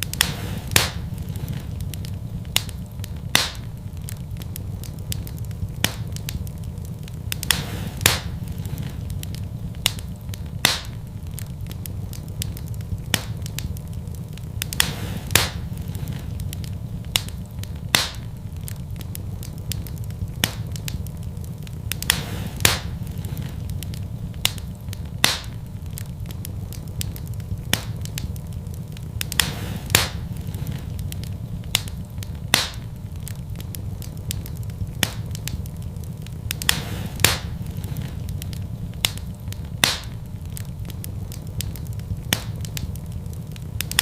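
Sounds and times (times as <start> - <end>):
fire crackling in fireplace: 0.0 - 44.0.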